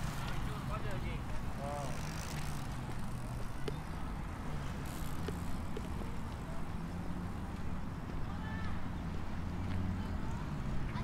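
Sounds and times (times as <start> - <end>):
bicycles passing: 0.0 - 11.0
low hum of traffic: 0.0 - 11.0.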